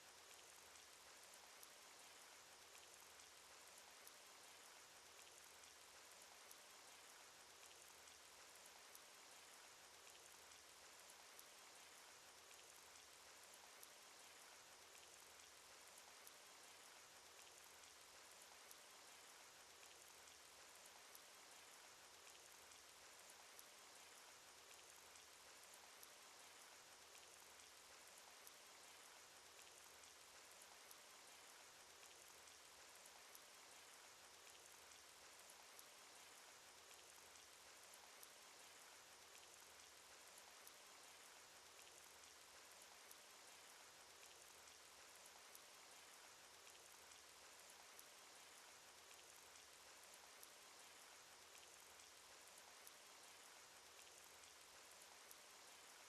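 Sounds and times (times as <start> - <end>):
faint hiss of rainfall: 0.0 - 56.0.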